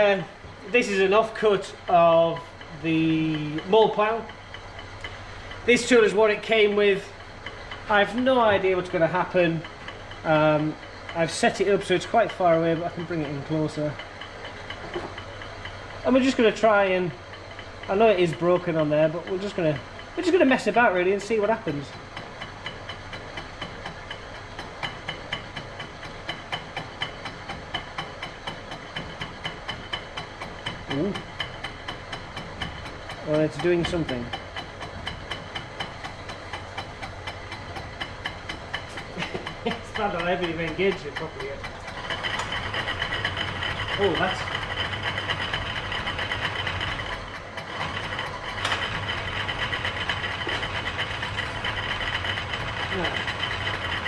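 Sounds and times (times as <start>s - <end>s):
lathe motor humming: 0.0s - 54.0s
ticking rattle: 0.0s - 54.0s.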